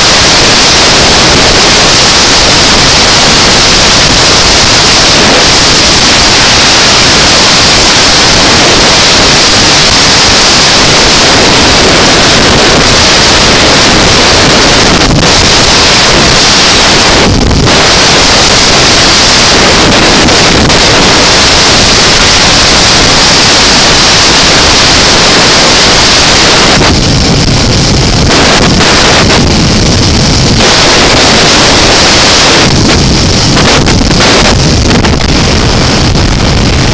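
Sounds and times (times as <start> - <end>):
motorcycle engine and tyre noise: 0.0 - 36.9
wind buffeting microphone: 0.0 - 36.9.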